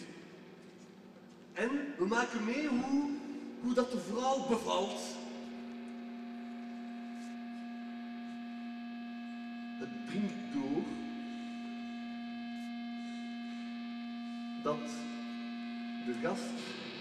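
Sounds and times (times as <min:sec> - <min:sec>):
steady electric hum: 0:00.0 - 0:17.0.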